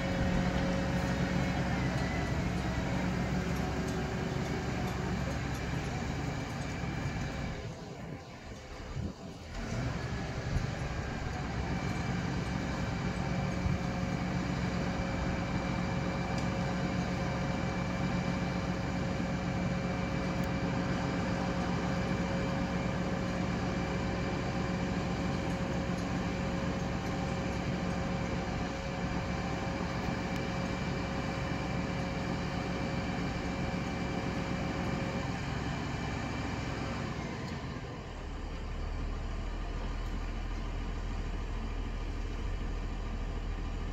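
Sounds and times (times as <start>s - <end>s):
low engine rumble: 0.0s - 43.9s
mechanical hum with whine: 0.0s - 43.9s.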